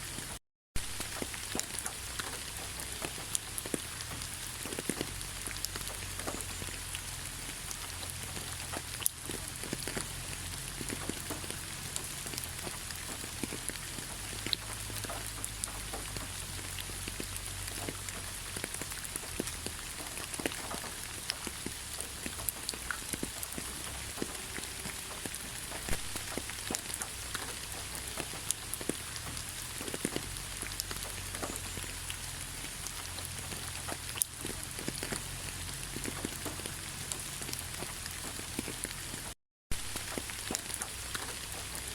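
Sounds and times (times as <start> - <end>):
raindrops ticking: 0.0 - 41.9
steady rain hiss: 0.0 - 41.9.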